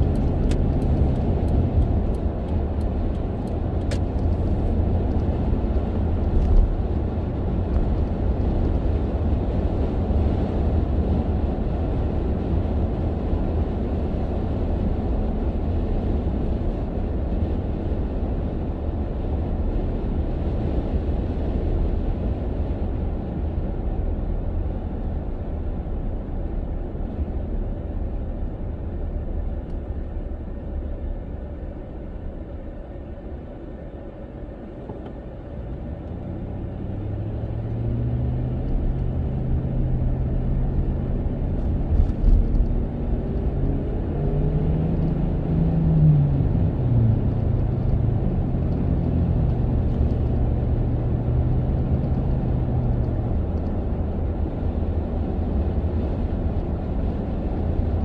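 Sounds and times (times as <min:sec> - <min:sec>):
car engine hum: 0:00.0 - 0:58.0
car road noise: 0:00.0 - 0:58.0.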